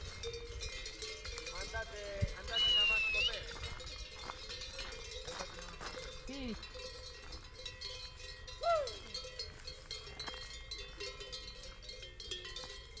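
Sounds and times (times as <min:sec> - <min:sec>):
cattle bells clinking: 0:00.0 - 0:13.0.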